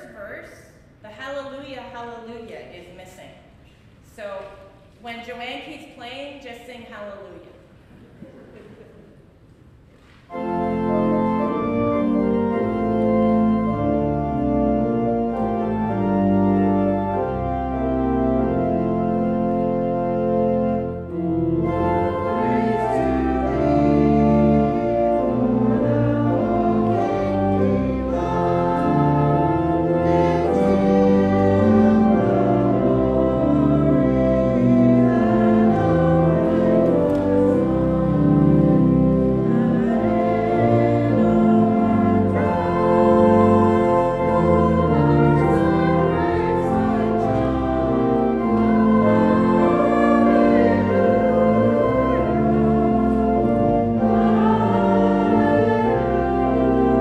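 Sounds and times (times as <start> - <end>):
church organ chords: 10.3 - 57.0
congregation singing: 10.3 - 57.0.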